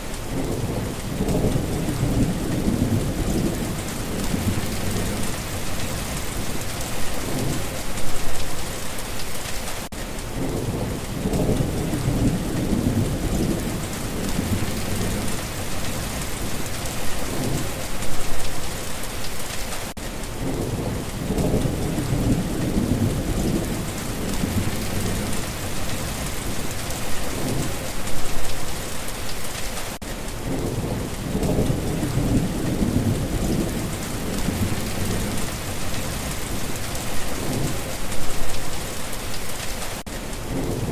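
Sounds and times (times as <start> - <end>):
thunder rumbling: 0.0 - 8.8, 10.2 - 19.1, 20.3 - 29.1, 30.4 - 39.6
heavy rain falling: 0.0 - 40.9.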